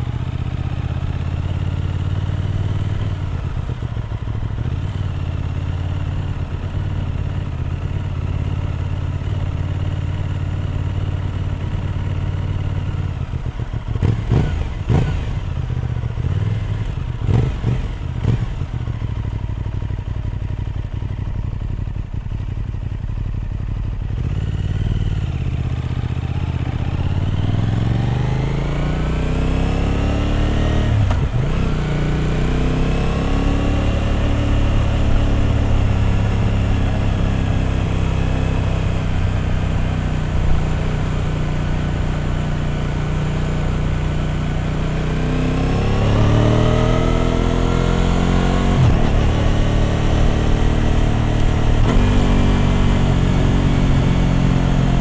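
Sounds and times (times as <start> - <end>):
motorcycle engine revving: 0.0 - 22.7, 23.4 - 55.0.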